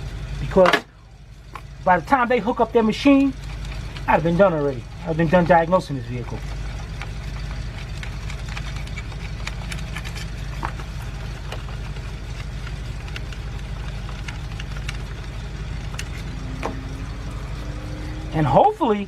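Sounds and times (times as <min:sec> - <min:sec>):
car engine idling roughly: 0:00.0 - 0:19.0.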